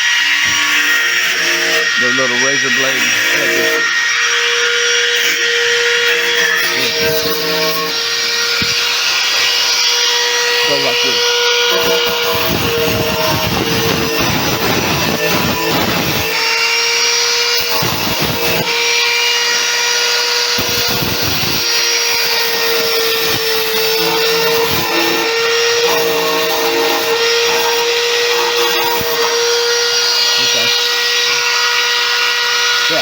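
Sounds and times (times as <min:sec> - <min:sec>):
angle grinder grinding steel: 0:00.0 - 0:33.0.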